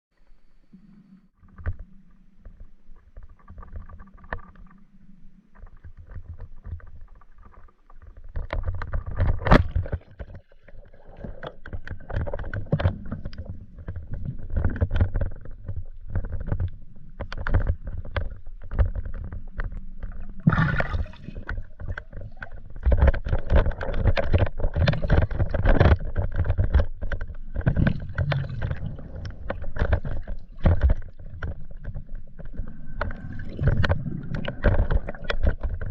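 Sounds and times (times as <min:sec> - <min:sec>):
underwater water sloshing and gurgling: 0:00.1 - 0:35.9
underwater knocks and clicks: 0:01.4 - 0:35.9.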